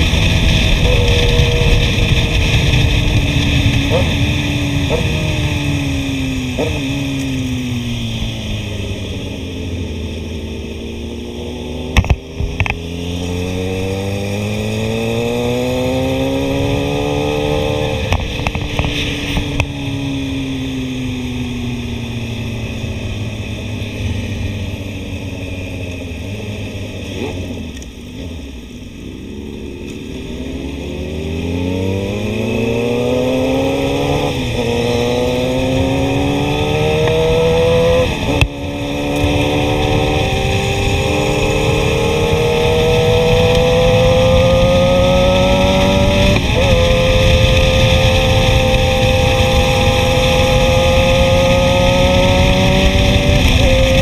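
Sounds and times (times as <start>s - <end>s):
wind noise: 0.0s - 27.8s, 30.1s - 54.0s
motorcycle engine revving: 0.0s - 54.0s.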